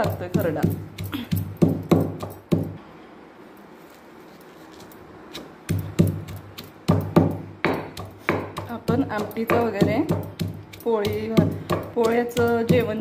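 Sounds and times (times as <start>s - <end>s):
stone pestle pounding paste: 0.0s - 2.8s, 5.3s - 13.0s.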